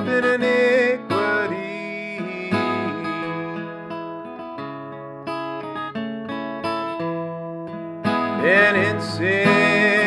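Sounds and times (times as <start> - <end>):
acoustic guitar strummed: 0.0 - 10.0.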